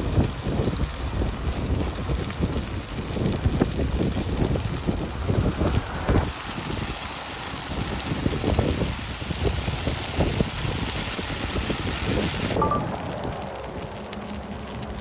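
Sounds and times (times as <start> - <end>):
fire crackling: 0.0 - 15.0
fire roaring: 0.0 - 15.0
wind buffeting microphone: 0.0 - 15.0.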